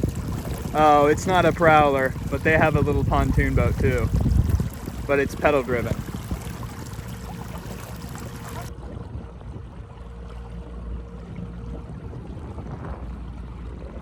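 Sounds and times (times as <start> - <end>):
water lapping at boat hull: 0.0 - 14.0.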